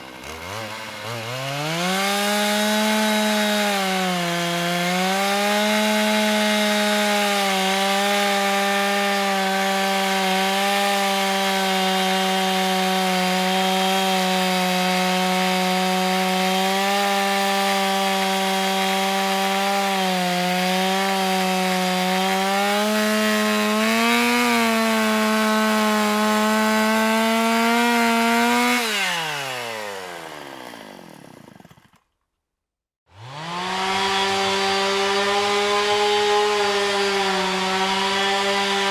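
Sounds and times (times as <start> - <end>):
electric chainsaw cutting wood: 0.0 - 32.2, 33.1 - 38.9.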